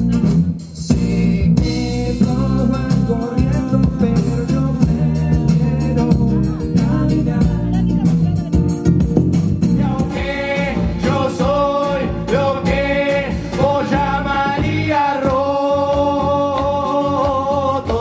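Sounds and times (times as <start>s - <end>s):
live band playing: 0.0s - 18.0s
voices singing: 0.8s - 8.8s, 9.6s - 18.0s.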